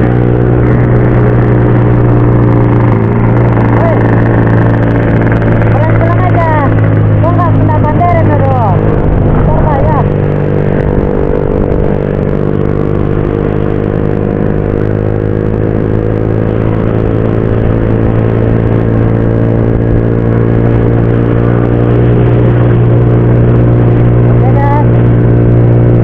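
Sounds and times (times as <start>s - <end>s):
motorcycle engine cruising: 0.0s - 26.0s
wind and road noise: 0.0s - 26.0s.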